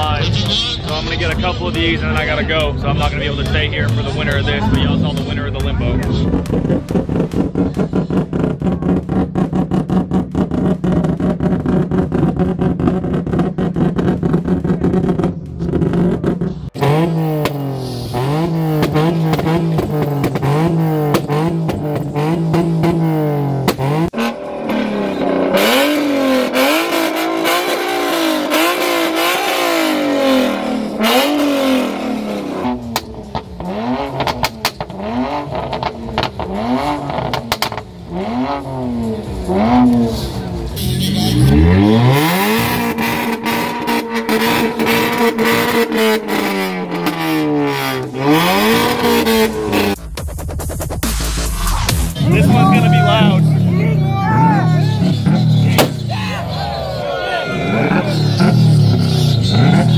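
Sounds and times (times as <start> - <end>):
car exhaust popping and crackling: 0.0 - 56.4, 57.7 - 59.9.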